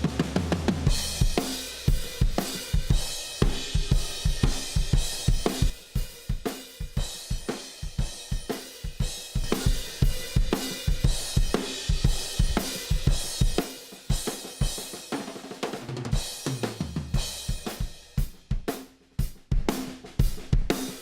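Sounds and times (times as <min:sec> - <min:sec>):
drum kit playing groove: 0:00.0 - 0:21.0.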